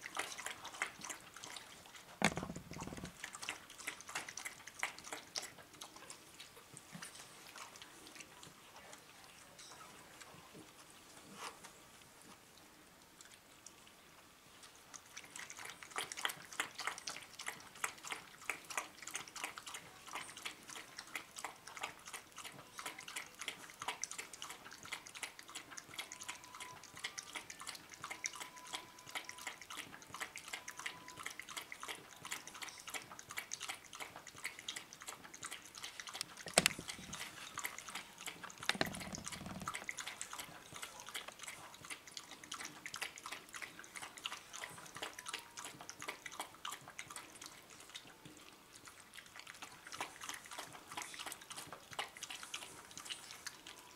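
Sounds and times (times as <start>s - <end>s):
dog lapping from bowl: 0.0s - 9.1s, 14.7s - 53.9s.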